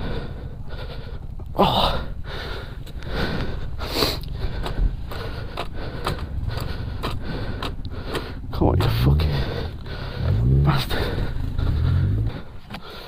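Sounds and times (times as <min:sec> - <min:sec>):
low rumble: 0:00.0 - 0:12.7
person breathing heavily: 0:00.0 - 0:13.0.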